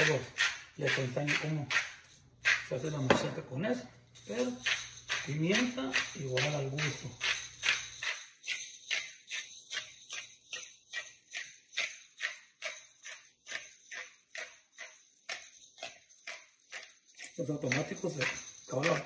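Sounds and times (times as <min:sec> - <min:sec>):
pepper mill grinding: 0:00.0 - 0:19.0.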